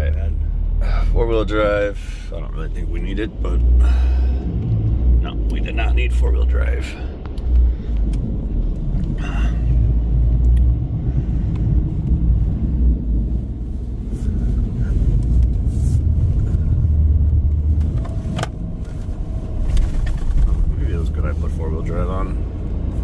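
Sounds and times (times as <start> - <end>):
truck engine and tyres rumbling: 0.0 - 23.0.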